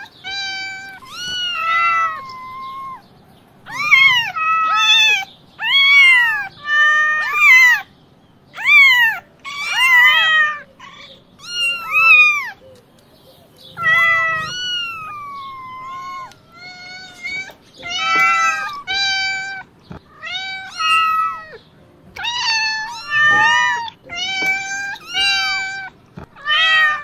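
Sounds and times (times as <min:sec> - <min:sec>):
kittens meowing: 0:00.0 - 0:07.9, 0:08.5 - 0:27.0.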